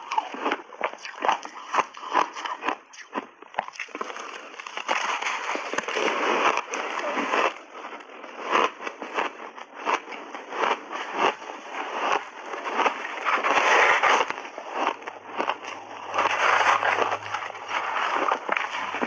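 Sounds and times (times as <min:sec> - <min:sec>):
ice crunching in mouth: 0:00.0 - 0:19.0.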